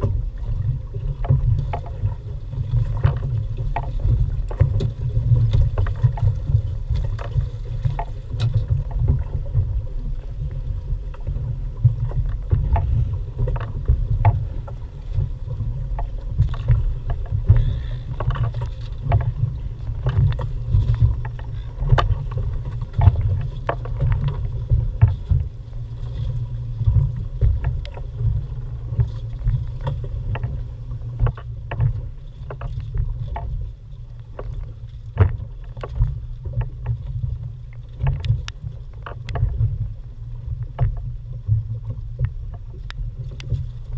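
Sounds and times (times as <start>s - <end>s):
knocks and splashes: 0.0s - 43.9s
wind and water against hull: 0.0s - 43.9s.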